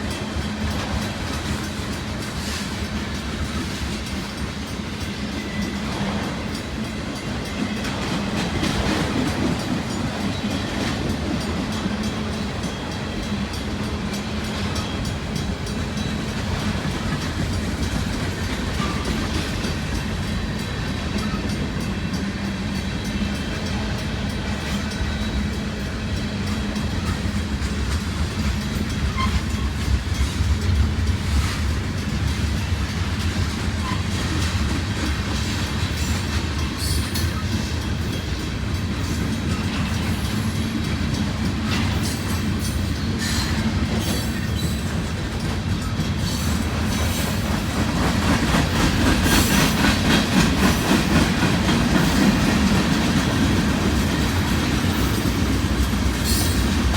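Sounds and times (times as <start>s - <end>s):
freight train rumbling past: 0.0s - 56.9s
railcar clicks and rattles: 0.0s - 56.9s.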